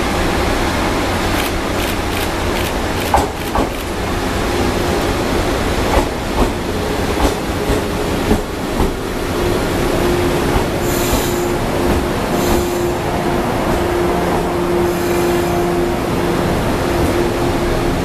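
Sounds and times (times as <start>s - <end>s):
steady train hum: 0.0s - 18.0s.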